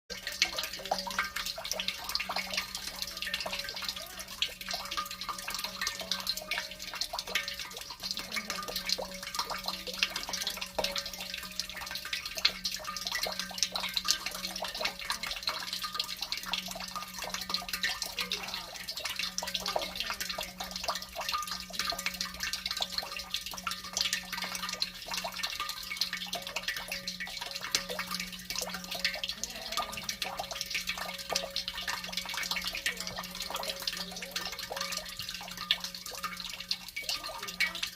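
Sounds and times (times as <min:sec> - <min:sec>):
tap water splashing in sink: 0:00.1 - 0:37.9.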